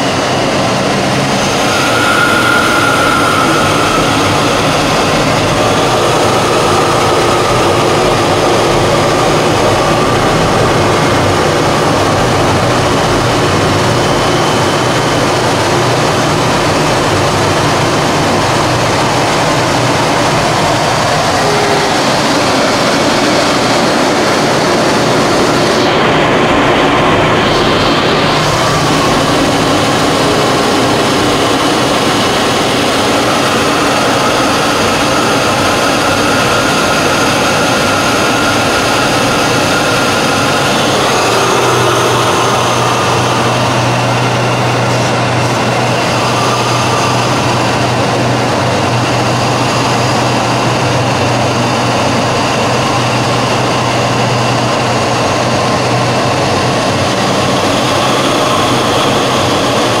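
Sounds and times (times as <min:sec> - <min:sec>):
aircraft engine drone: 0:00.0 - 1:00.0
steady low hum: 0:00.0 - 1:00.0.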